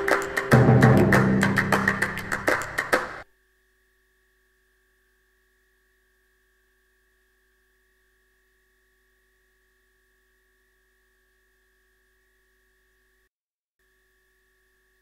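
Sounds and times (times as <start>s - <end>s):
faint electrical hum and whine: 0.0s - 15.0s.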